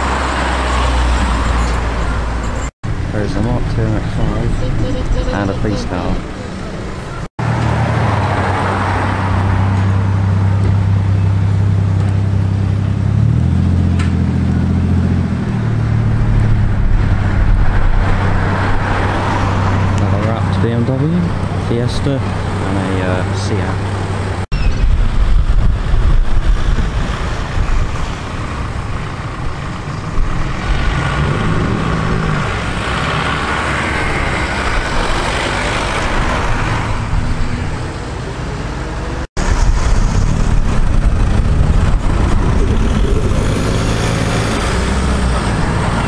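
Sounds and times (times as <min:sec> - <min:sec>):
car engines and exhausts passing: 0:00.0 - 0:46.0
steady traffic noise: 0:00.0 - 0:46.0.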